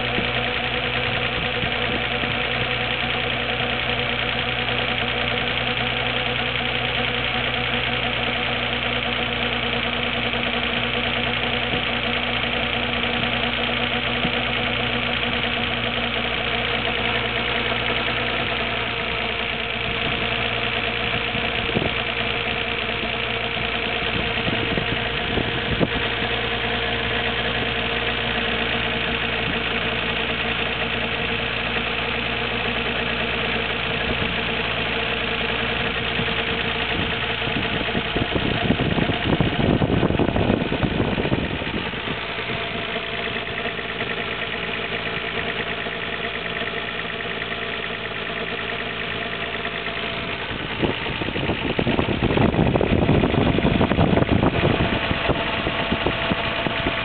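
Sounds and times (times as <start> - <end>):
car engine idling: 0.0 - 57.0
churning engine noise: 0.0 - 57.0.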